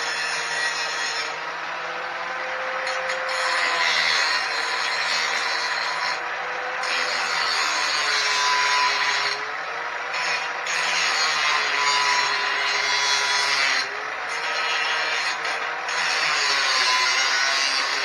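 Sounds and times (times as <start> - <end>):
angle grinder cutting steel: 0.0 - 18.0.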